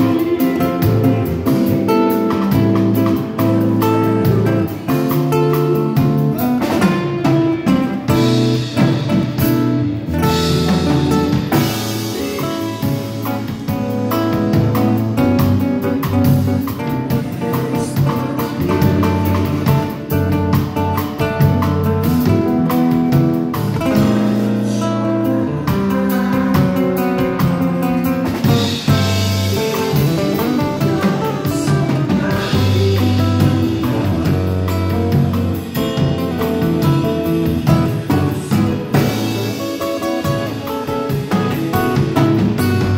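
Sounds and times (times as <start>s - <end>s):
light drums: 0.0s - 42.9s
low bass line: 0.0s - 42.9s
nylon-string guitar playing: 0.0s - 42.9s.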